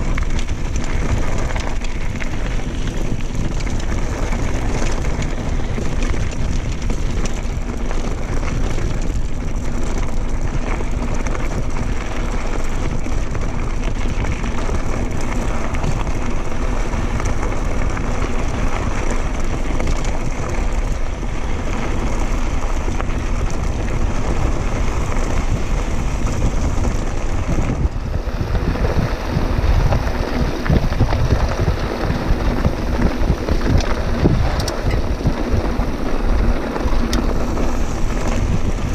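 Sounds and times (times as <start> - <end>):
bike tyres rolling on dirt: 0.0 - 38.9
wind rushing over microphone: 0.0 - 38.9.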